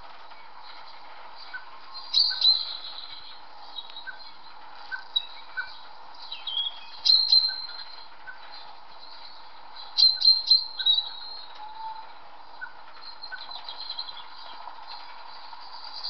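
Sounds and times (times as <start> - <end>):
birds twittering: 0.0 - 16.0
faint steady hum: 0.0 - 16.0.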